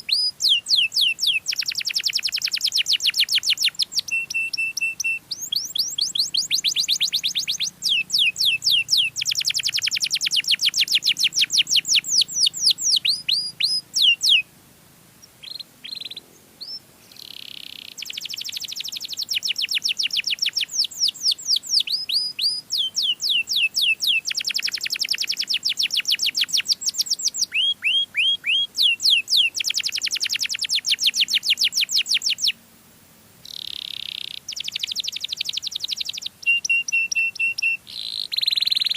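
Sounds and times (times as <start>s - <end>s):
canary singing: 0.0s - 14.5s, 15.2s - 32.6s, 33.4s - 38.9s.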